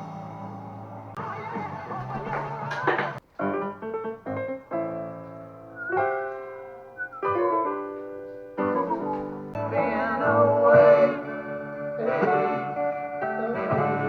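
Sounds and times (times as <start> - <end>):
song with piano chords: 0.0 - 14.0.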